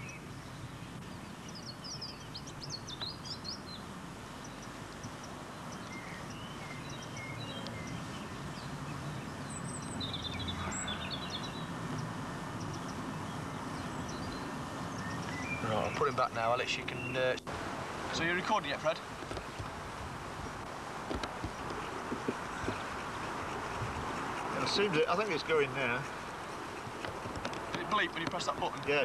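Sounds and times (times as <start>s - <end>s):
small birds chirping and singing: 0.0s - 17.5s, 18.1s - 19.8s, 20.4s - 29.0s
outdoor background noise: 0.0s - 29.0s.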